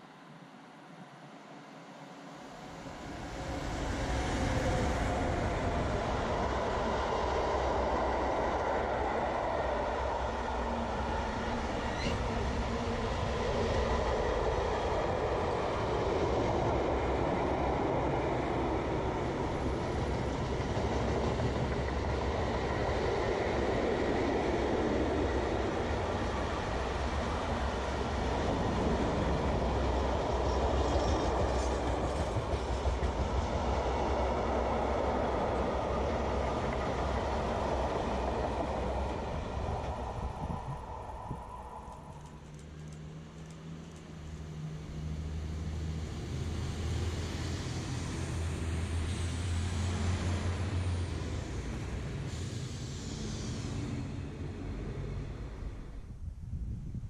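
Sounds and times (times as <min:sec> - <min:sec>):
freight wagons rumbling on rails: 0:03.5 - 0:57.0.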